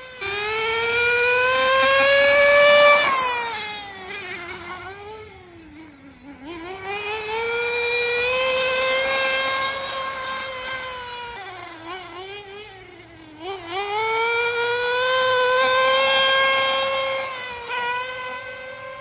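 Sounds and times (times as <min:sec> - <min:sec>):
nitro engine buzzing: 0:00.0 - 0:19.0.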